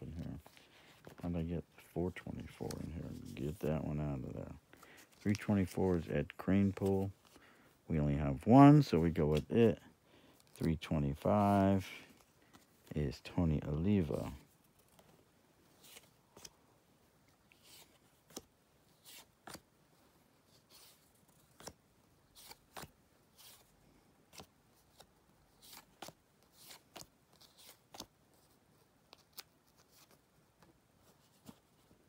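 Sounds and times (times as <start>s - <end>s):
cards rustling and clicking: 0.1s - 7.5s, 8.6s - 16.6s, 17.4s - 19.7s, 20.6s - 32.0s.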